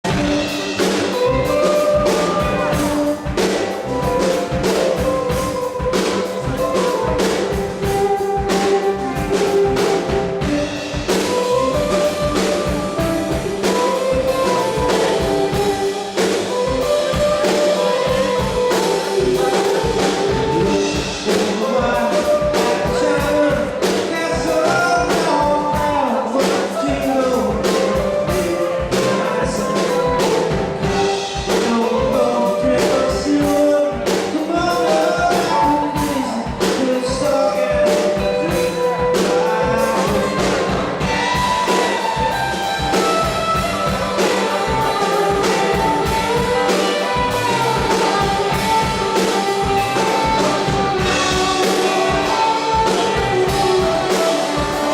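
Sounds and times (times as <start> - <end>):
drum kit beat: 0.0 - 54.9
live rock band playing: 0.0 - 54.9
melodic lead lines: 0.0 - 54.9.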